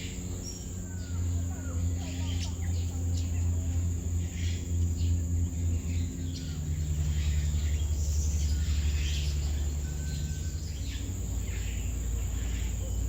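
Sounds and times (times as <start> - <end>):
birds chirping and calling: 0.0 - 13.0
high insect-like hiss: 0.0 - 13.0
steady low rumble: 0.0 - 13.0.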